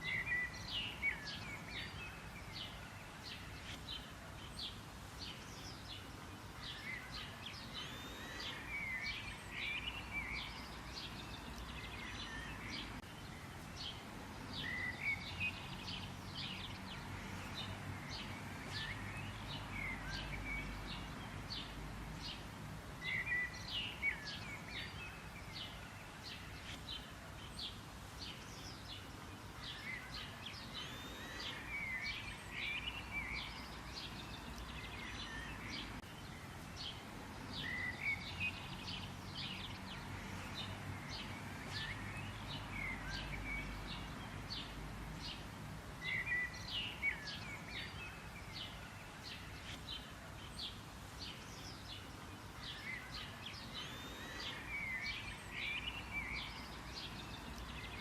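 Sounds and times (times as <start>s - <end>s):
songbirds chirping and warbling: 0.0s - 58.0s.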